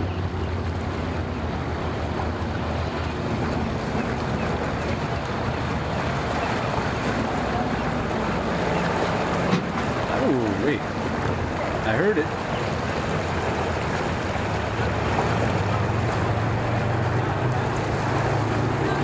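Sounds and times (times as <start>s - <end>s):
boat motor running: 0.0s - 19.0s
water rushing: 0.0s - 19.0s
wind: 0.0s - 19.0s.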